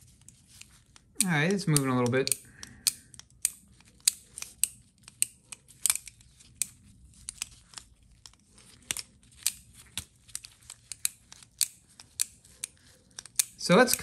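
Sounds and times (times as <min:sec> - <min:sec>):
sharp metal clicks: 0:00.2 - 0:14.0.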